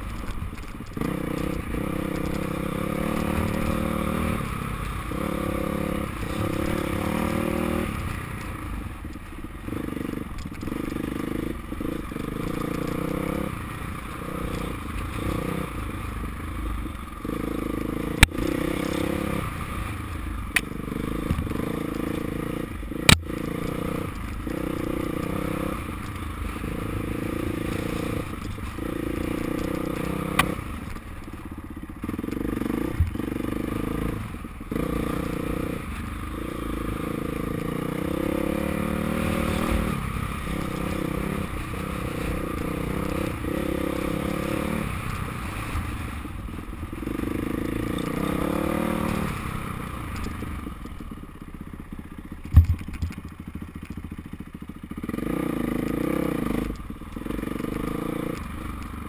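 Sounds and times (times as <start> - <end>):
dirt bike engine revving: 0.9 - 8.3, 9.7 - 16.1, 16.7 - 31.0, 32.0 - 46.3, 46.9 - 50.4, 55.0 - 58.7.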